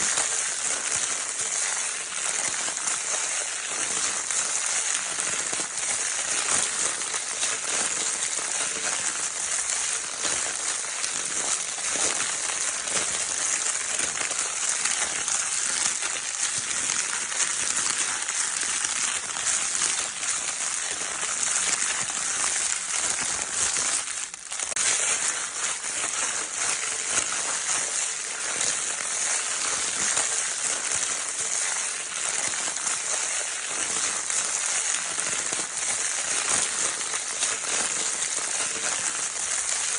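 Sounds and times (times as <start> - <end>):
crinkle paper rustling: 0.0 - 39.9.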